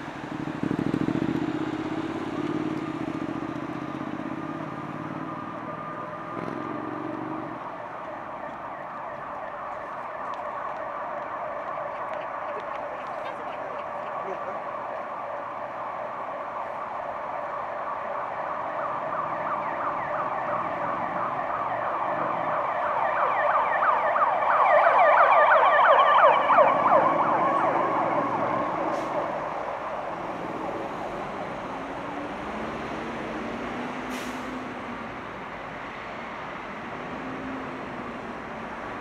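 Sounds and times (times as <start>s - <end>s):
city traffic: 0.0s - 39.0s
emergency siren yelping: 0.0s - 39.0s.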